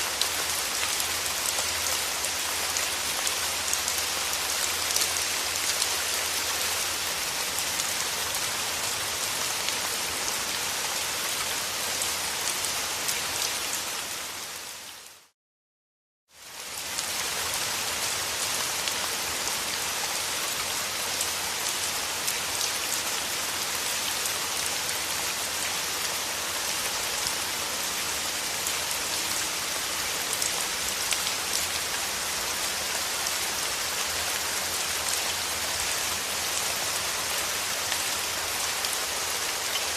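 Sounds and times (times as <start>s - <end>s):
steady rain patter: 0.0s - 15.3s, 16.3s - 39.9s.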